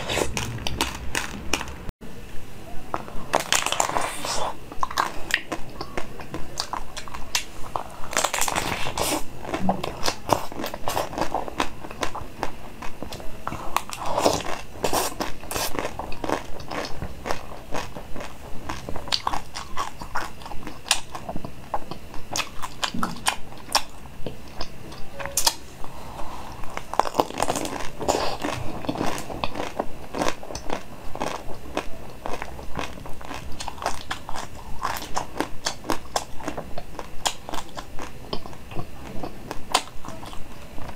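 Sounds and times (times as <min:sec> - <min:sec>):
biting and chewing crunchy sweets: 0:00.0 - 0:01.9, 0:02.8 - 0:40.9.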